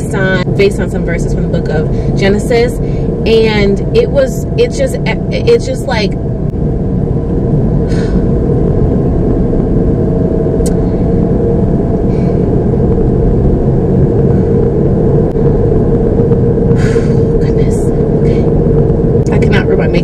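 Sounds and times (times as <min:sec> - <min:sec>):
faint steady hum: 0:00.0 - 0:20.0
low rumble inside car: 0:00.0 - 0:20.0.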